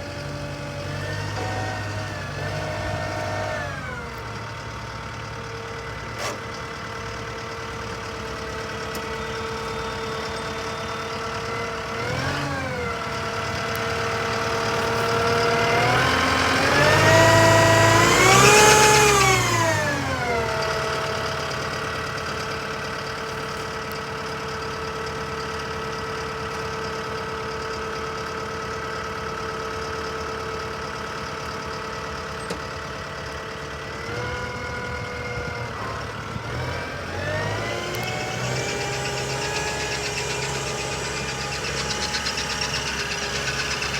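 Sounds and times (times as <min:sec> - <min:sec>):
tractor diesel engine idling and revving: 0:00.0 - 0:43.9.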